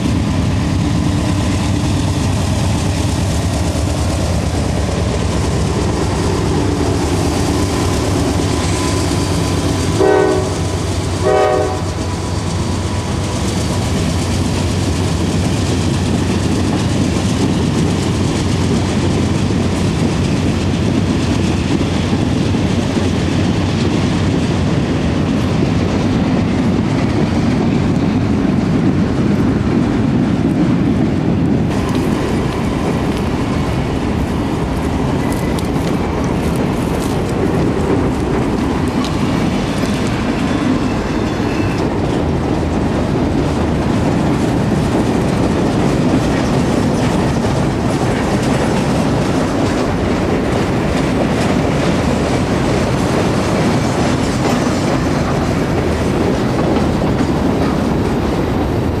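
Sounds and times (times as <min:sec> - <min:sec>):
diesel locomotive at full throttle: 0:00.0 - 0:59.0.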